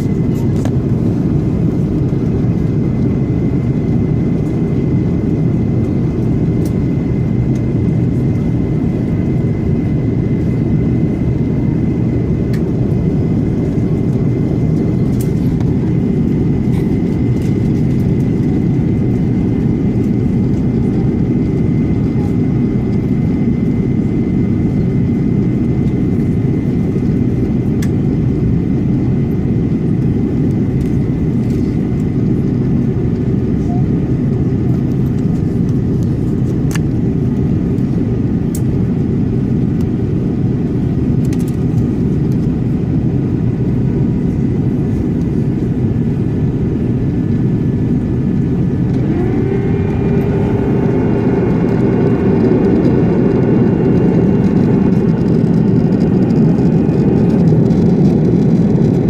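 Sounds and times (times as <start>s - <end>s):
airliner engines and airflow rumble: 0.0s - 59.0s.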